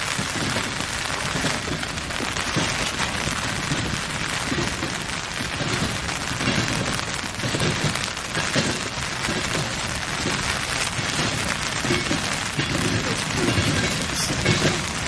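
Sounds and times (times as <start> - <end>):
freight train cars clattering: 0.0 - 15.0.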